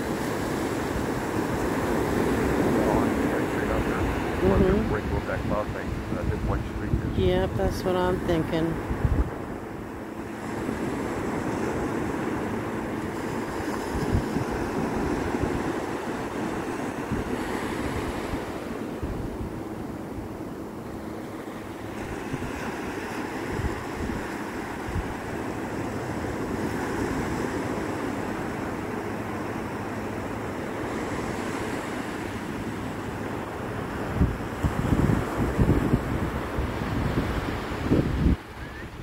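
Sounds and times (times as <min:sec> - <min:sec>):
ocean surf breaking on beach: 0:00.0 - 0:39.0
wind buffeting microphone: 0:00.0 - 0:39.0.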